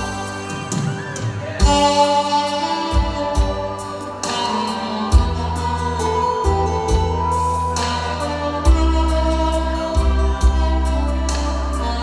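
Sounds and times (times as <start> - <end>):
backing track with bass and drums: 0.0 - 12.0
tenor saxophone melody: 0.0 - 12.0.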